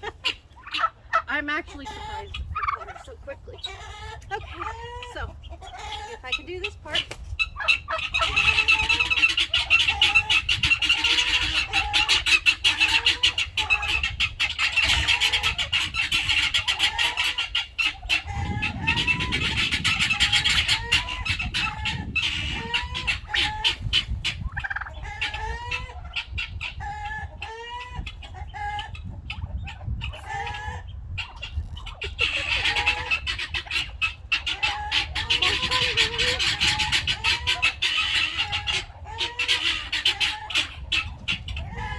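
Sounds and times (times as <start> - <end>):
turkeys yelping and clucking: 0.0 - 41.9.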